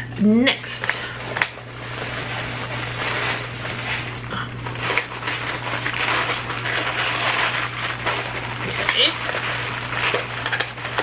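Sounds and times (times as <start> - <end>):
packing wrapping crinkling: 1.0 - 11.0.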